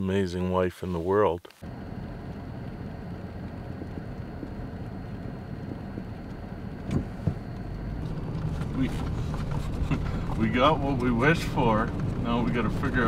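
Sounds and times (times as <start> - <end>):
truck engine and road rumble: 1.1 - 13.0.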